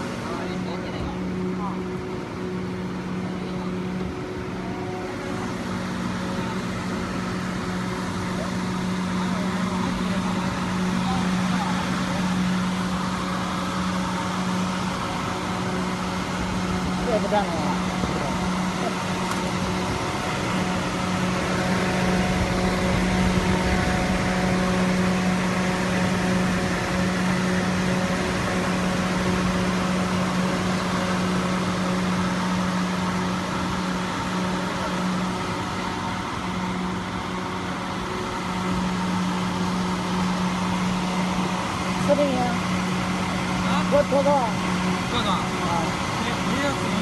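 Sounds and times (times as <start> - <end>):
machine motor humming: 0.0 - 47.0.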